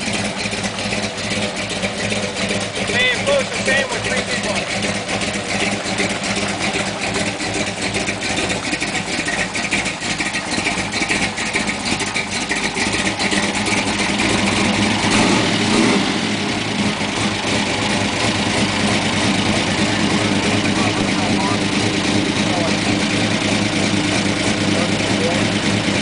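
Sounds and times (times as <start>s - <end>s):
engine running: 0.0s - 26.0s
tyres churning through water: 0.0s - 26.0s.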